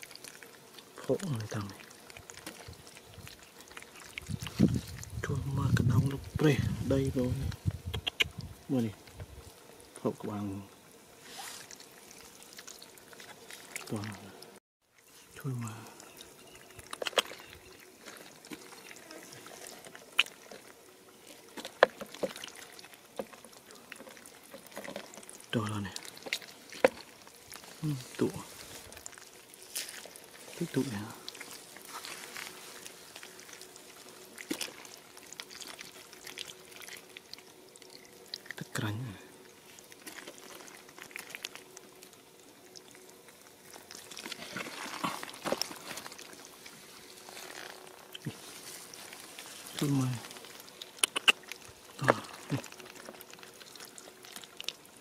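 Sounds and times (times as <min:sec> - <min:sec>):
hands squelching through wet mud: 0:00.0 - 0:08.4, 0:15.4 - 0:39.0, 0:39.6 - 0:55.0.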